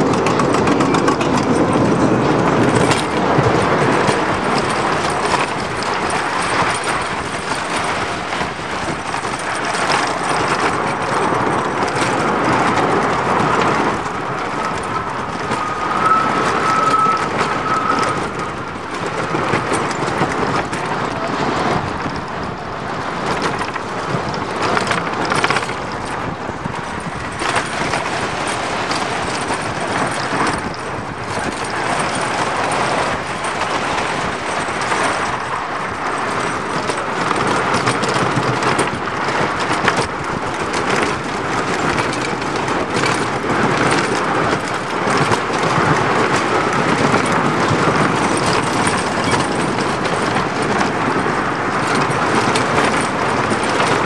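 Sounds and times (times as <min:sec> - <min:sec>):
roller coaster rumble and clatter: 0:00.0 - 0:54.0.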